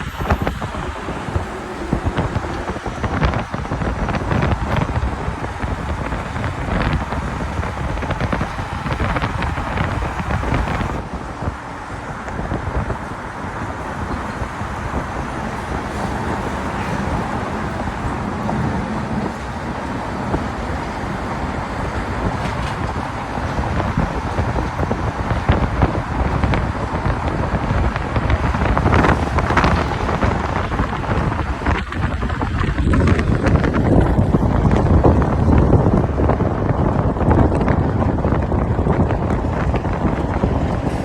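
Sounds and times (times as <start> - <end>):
highway traffic rumble: 0.0 - 41.0
wind buffeting microphone: 0.0 - 41.0.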